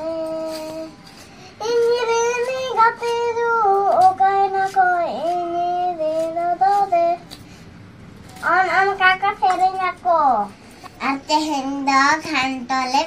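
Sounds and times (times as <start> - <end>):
boy singing: 0.0 - 1.0, 1.6 - 7.2, 8.4 - 13.0.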